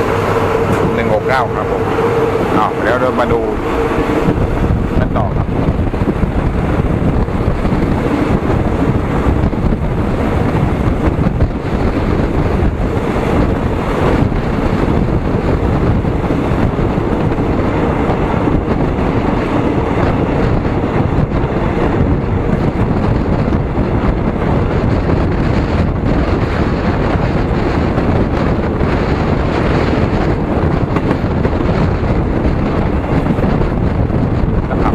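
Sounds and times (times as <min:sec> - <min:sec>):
moving vehicle rumble: 0:00.0 - 0:34.9
wind buffeting microphone: 0:00.0 - 0:34.9.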